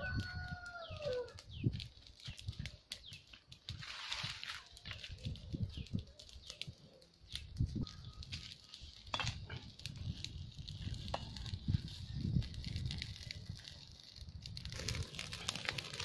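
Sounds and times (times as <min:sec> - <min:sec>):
kindling crackling: 0:00.0 - 0:16.0.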